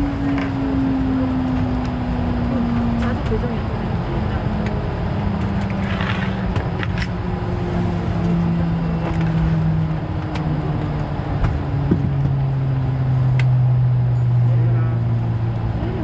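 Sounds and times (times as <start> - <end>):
aircraft engine hum: 0.0 - 16.0.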